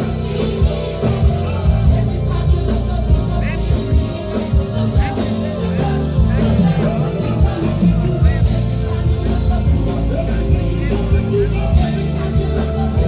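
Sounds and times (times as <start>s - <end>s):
bass: 0.0s - 13.0s
drums: 0.0s - 13.0s
singing: 0.0s - 13.0s.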